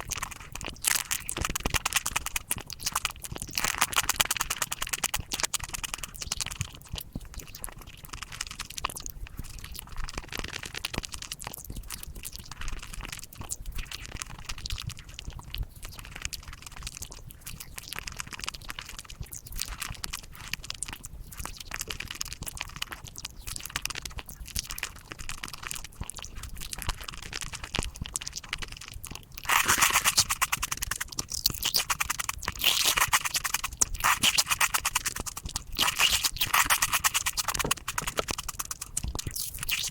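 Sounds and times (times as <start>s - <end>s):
rapid crunching and chewing: 0.0s - 39.9s.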